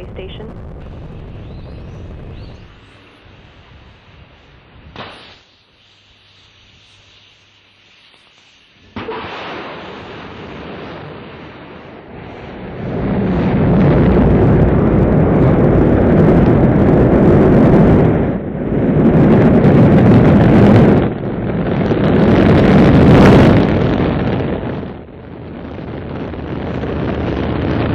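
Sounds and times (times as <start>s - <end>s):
rocket engines rumbling: 0.0s - 27.9s.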